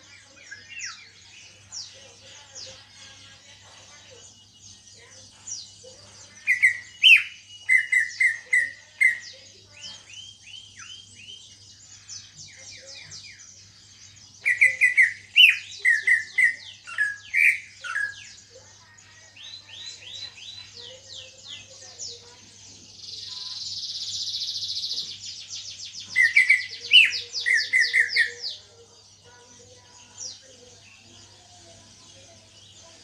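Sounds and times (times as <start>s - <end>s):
bird singing: 0.0s - 33.0s.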